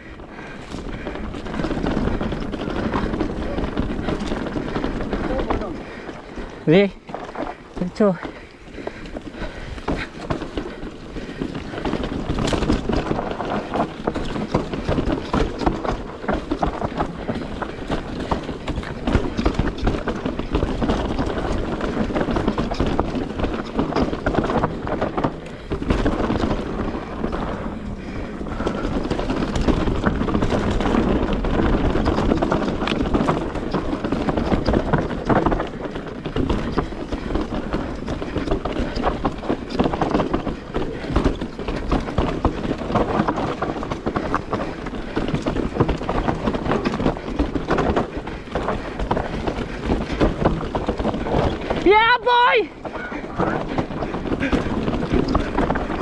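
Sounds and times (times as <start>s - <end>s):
bike clattering over rocks: 0.0s - 56.0s
steady rushing noise: 0.0s - 56.0s.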